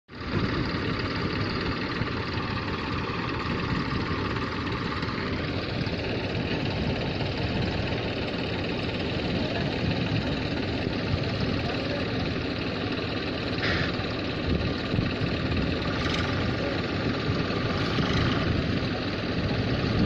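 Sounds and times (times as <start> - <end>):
vehicle engine running: 0.1 - 20.0.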